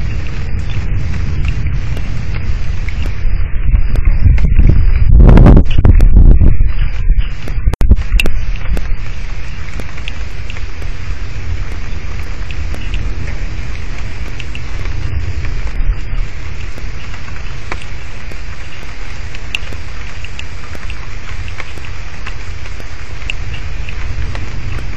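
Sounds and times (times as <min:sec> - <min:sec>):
low rumble: 0:00.0 - 0:24.9
rain pouring on microphone: 0:00.0 - 0:24.9.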